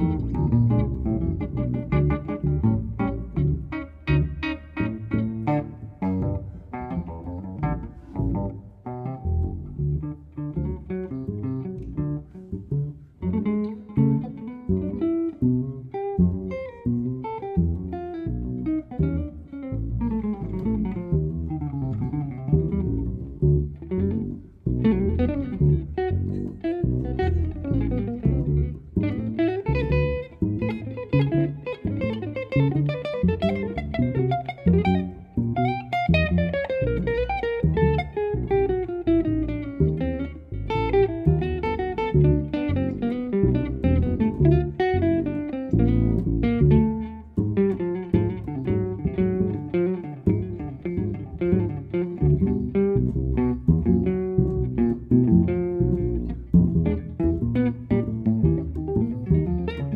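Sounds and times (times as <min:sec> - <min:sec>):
electric guitar plucked melody: 0:00.0 - 0:59.9
upright double bass: 0:00.0 - 0:59.9.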